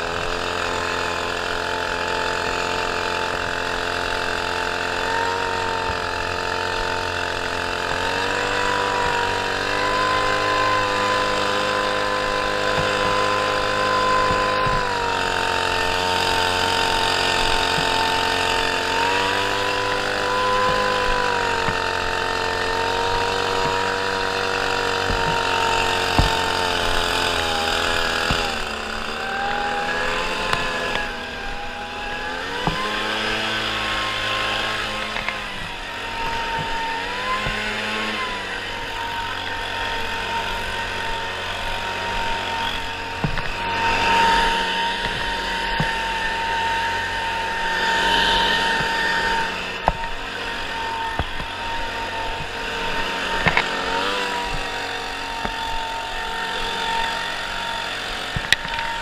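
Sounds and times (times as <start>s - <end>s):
lawn mower engine running: 0.0s - 59.0s.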